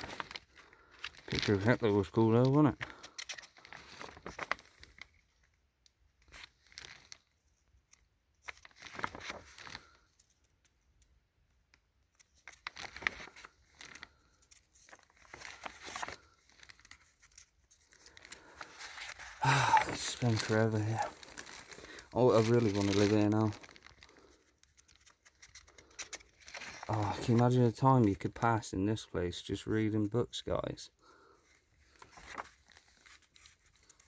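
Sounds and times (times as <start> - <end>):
book pages turning: 0.0 - 5.3, 6.2 - 10.4, 12.2 - 28.4, 31.8 - 34.0.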